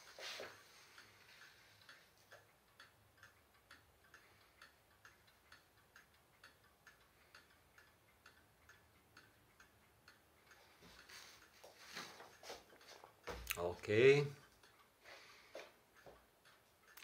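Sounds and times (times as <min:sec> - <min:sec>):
wall clock ticking: 0:00.0 - 0:17.0.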